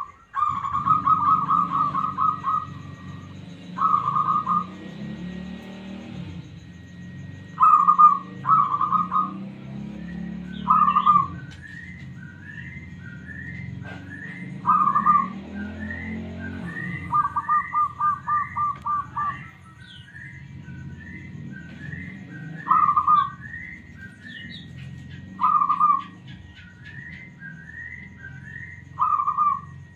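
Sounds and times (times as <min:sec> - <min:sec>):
dove cooing: 0:00.0 - 0:29.9
high rising chirps: 0:00.0 - 0:29.9.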